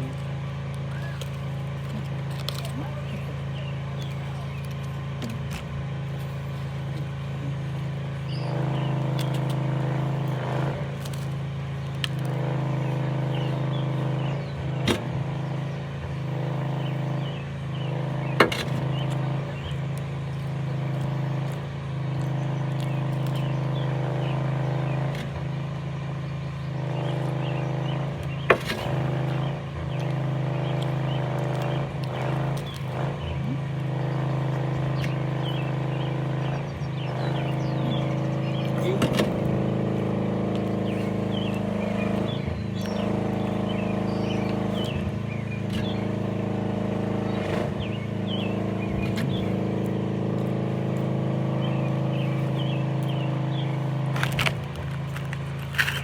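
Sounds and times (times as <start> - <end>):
machinery engine drone: 0.0 - 56.0.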